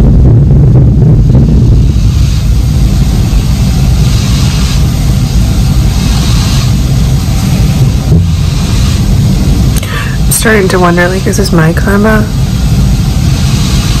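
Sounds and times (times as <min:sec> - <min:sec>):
construction machinery rumbling: 0:00.0 - 0:14.0
high hiss: 0:00.0 - 0:14.0.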